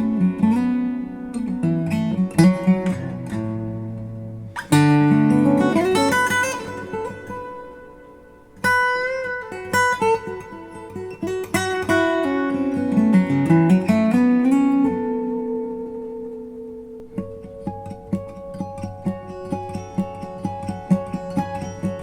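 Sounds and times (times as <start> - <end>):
acoustic guitar music over loudspeakers: 0.0 - 22.0.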